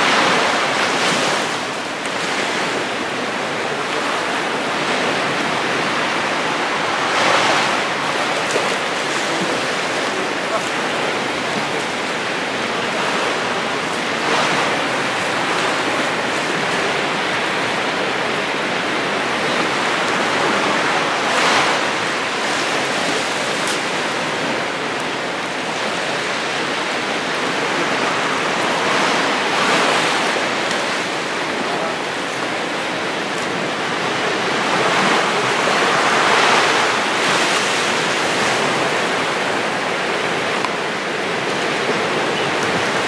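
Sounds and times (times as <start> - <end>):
rushing water underwater: 0.0 - 43.0.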